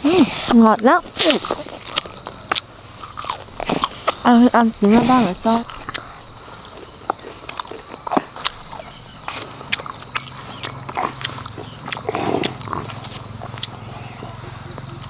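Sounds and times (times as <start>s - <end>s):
wet chewing and lip smacking: 0.3s - 15.0s.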